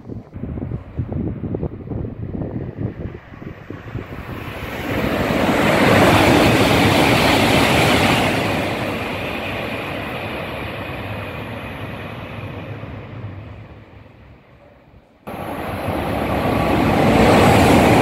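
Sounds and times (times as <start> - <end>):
train rushing past: 0.0 - 18.0.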